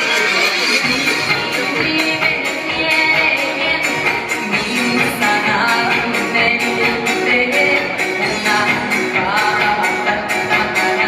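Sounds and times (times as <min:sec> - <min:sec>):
backing track with steady beat: 0:00.0 - 0:11.0.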